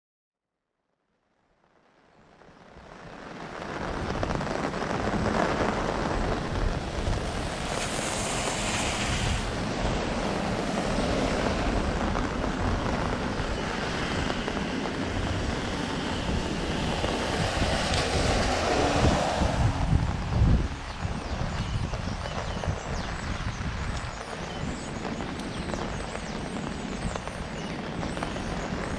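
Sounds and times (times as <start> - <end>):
heavy rain: 1.6 - 28.9
wind rumbling on microphone: 2.2 - 28.9.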